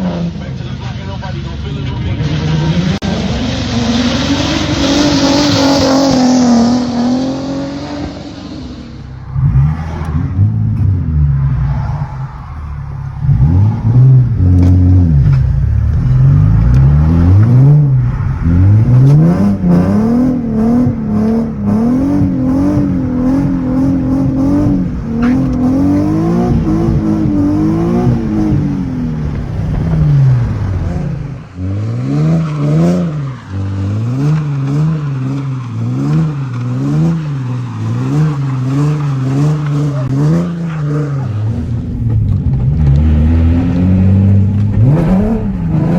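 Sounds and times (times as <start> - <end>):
car engine revving hard: 2.1 - 45.9.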